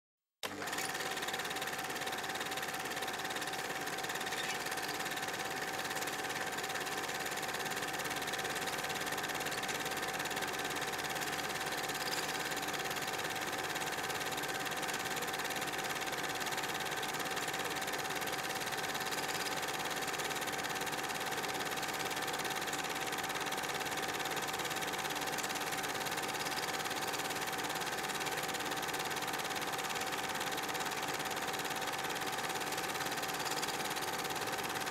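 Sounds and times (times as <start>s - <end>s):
film projector whirring: 0.4s - 34.9s.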